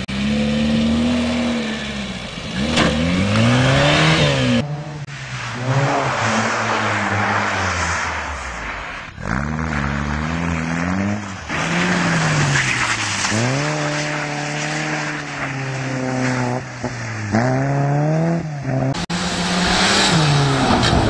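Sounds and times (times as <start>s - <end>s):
small car engines revving: 0.0s - 21.0s.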